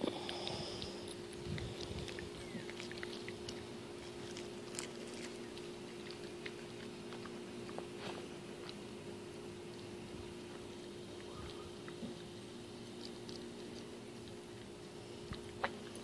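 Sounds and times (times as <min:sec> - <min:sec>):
dog chewing: 0:00.0 - 0:16.0
steady low hum: 0:00.0 - 0:16.0.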